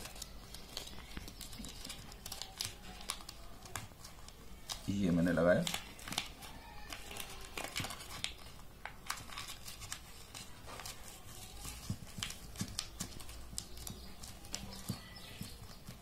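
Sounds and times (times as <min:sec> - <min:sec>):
adhesive tape crinkling: 0:00.0 - 0:16.0.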